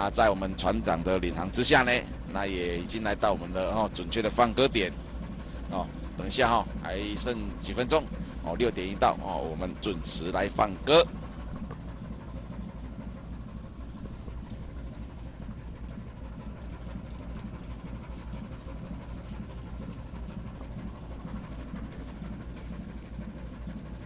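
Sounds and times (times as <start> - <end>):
ship engine drone: 0.0 - 24.0.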